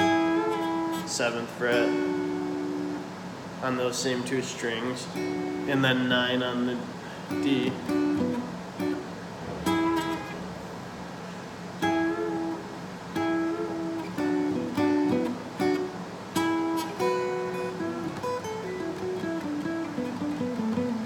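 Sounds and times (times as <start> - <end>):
acoustic guitar played slowly: 0.0 - 21.0.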